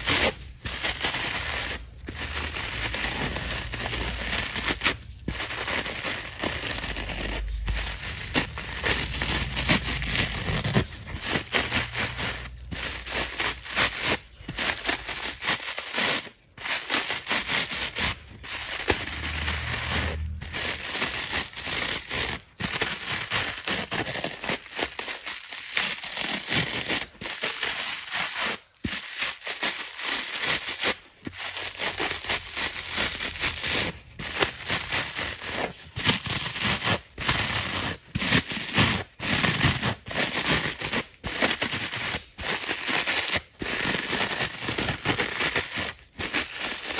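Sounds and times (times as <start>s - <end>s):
foam sponge tearing: 0.0s - 46.9s.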